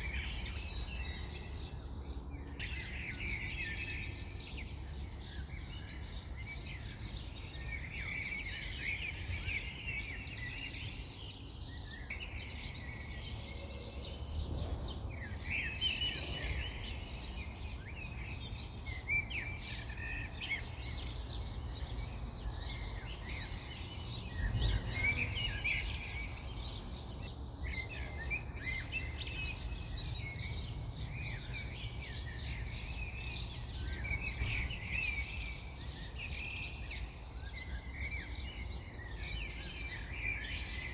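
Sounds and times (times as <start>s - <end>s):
birds chirping and twittering: 0.0s - 40.9s.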